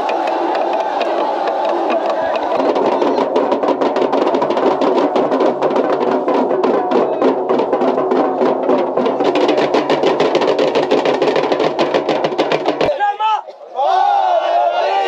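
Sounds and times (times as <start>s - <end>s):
drums beaten fast: 0.0s - 13.2s.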